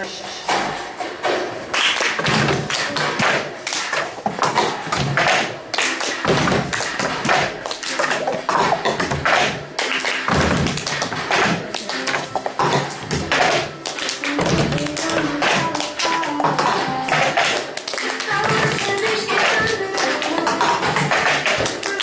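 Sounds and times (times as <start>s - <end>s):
fast percussive tapping and slapping: 1.7s - 22.0s.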